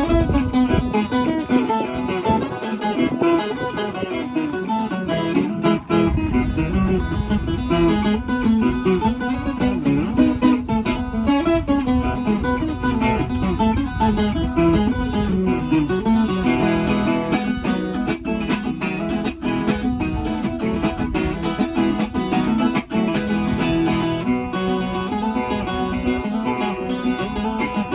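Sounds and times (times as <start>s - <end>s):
folk guitar plucked notes and chords: 0.0s - 27.9s.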